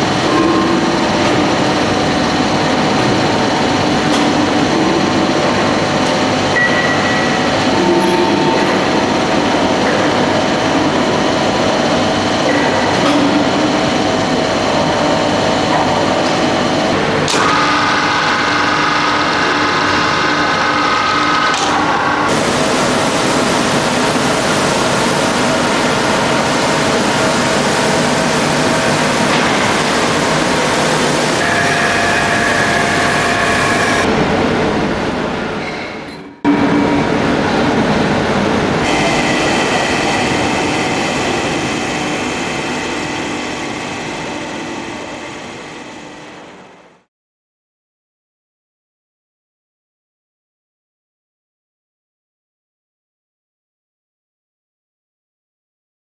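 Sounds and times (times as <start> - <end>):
industrial machinery hum: 0.0 - 47.1.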